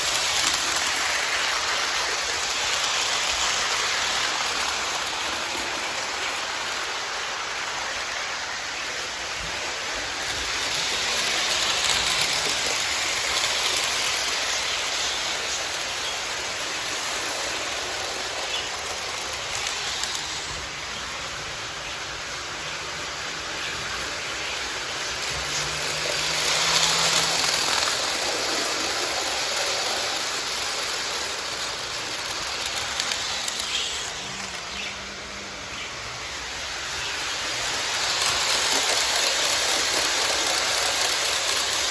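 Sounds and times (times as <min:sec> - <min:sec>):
model train wheels rumbling on track: 0:00.0 - 0:41.9.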